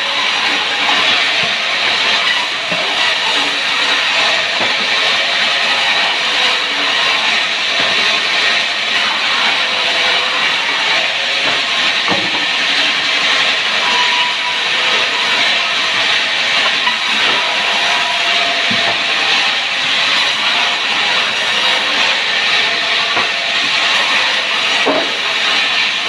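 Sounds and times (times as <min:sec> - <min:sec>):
wood saw running: 0:00.0 - 0:26.0.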